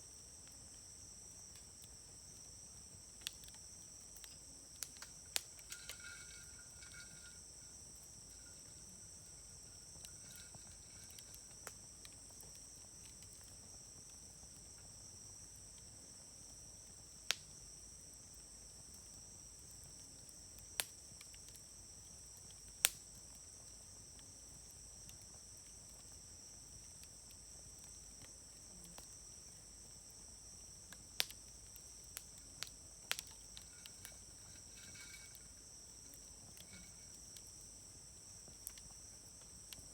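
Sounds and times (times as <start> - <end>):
campfire wood crackling: 0.1 - 39.9
high insect trill: 0.1 - 39.9.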